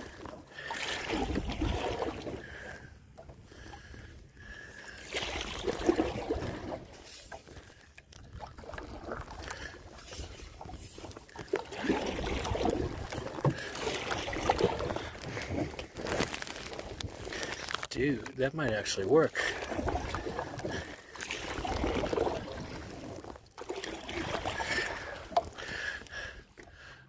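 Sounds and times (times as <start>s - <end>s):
paddle splashing water: 0.0s - 27.0s
water sloshing against hull: 0.0s - 27.0s.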